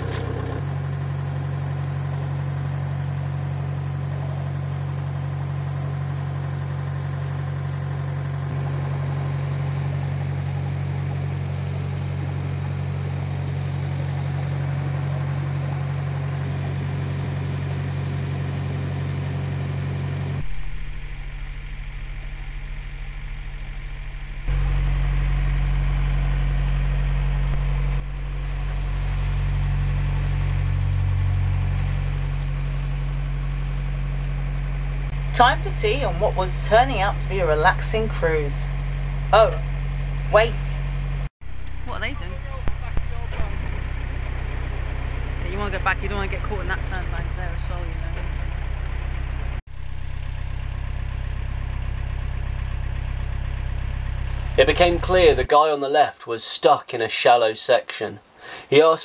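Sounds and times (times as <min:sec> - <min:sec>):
diesel engine chugging: 0:00.0 - 0:55.5.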